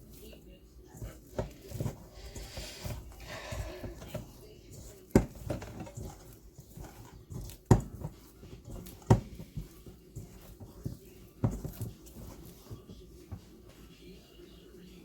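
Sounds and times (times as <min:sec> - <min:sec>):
light knocks of handling dough: 0:00.0 - 0:14.1
dough thumping on counter: 0:00.9 - 0:13.8.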